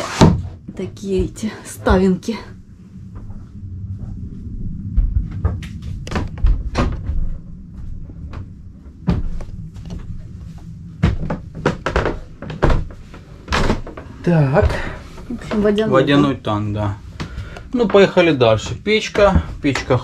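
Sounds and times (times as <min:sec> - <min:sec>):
steady low rumble: 0:00.5 - 0:20.0.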